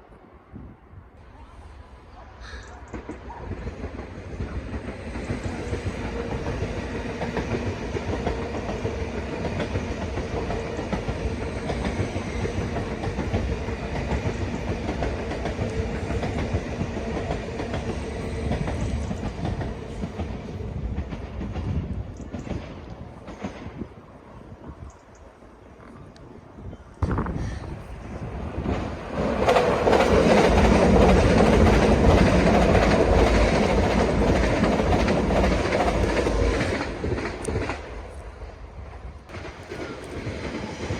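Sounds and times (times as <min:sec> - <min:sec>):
train running past: 0:00.0 - 0:40.9.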